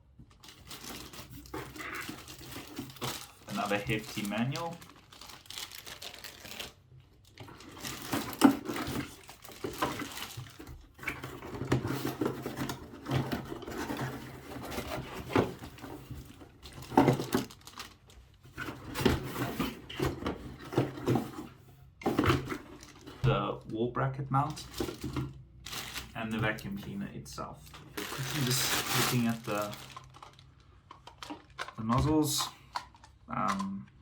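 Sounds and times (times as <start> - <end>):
plastic parts clicking and knocking: 0.2 - 21.4, 27.7 - 34.0
packaging rustling: 0.2 - 23.5, 24.4 - 26.9, 27.6 - 34.0.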